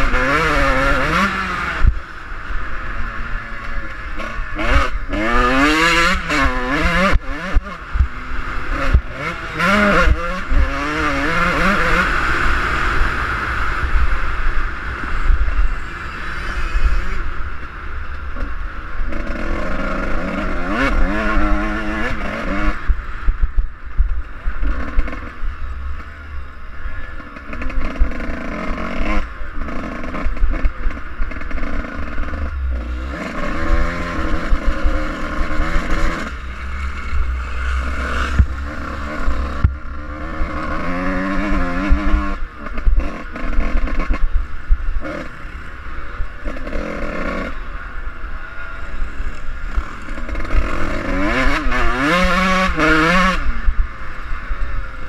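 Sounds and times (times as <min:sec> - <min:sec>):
motocross bike engine revving: 0:00.0 - 0:17.7, 0:18.3 - 0:23.6, 0:24.2 - 0:55.0.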